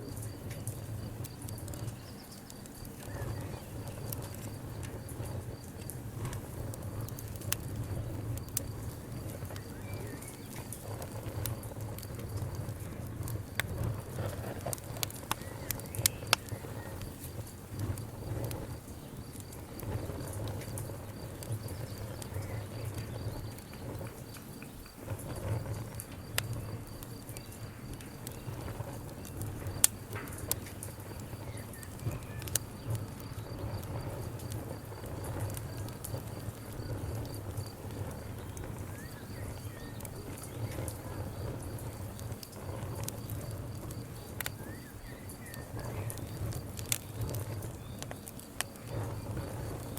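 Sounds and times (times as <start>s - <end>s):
campfire crackling: 0.0s - 49.9s
sharp pops of fire: 0.0s - 49.9s.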